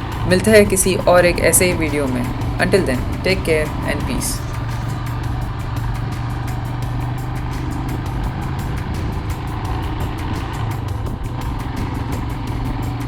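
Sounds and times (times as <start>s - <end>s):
background music with quick beat: 0.0s - 13.0s
motorcycle engine running: 0.0s - 13.0s.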